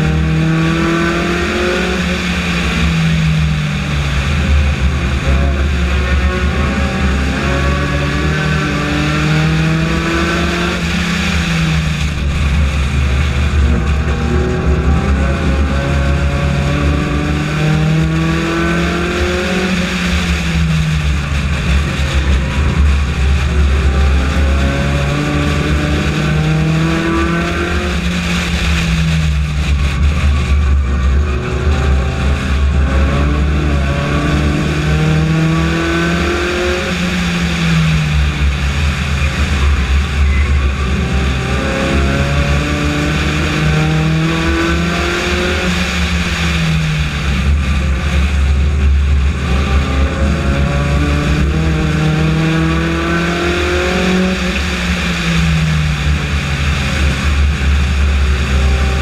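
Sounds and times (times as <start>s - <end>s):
race car engine revving: 0.0s - 59.0s
road and wind noise: 0.0s - 59.0s.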